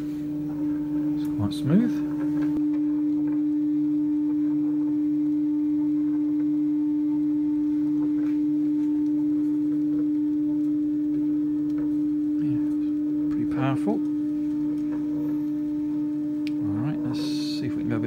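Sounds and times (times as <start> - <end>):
stepper motor humming: 0.0 - 18.0.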